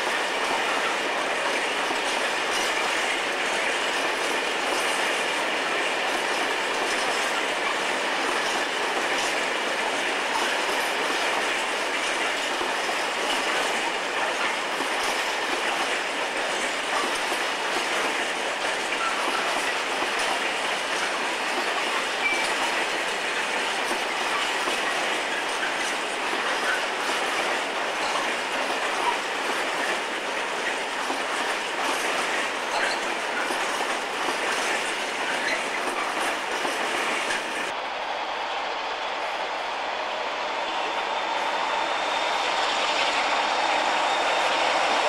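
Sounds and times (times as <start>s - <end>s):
train wheels clattering over rail joints: 0.0s - 37.7s.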